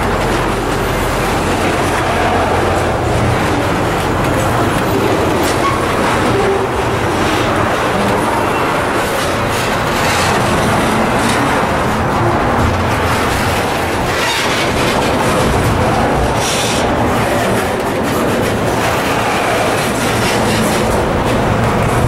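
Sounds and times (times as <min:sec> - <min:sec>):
train wheels rumbling on rail: 0:00.0 - 0:22.0
wheels clicking over rail joints: 0:00.0 - 0:22.0.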